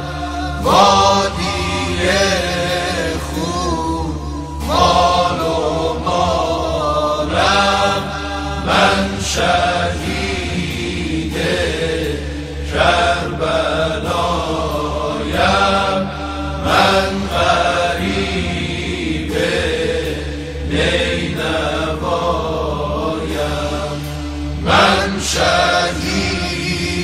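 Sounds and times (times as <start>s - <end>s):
low hummed drone: 0.0s - 27.0s
vocal ensemble chanting: 0.0s - 27.0s.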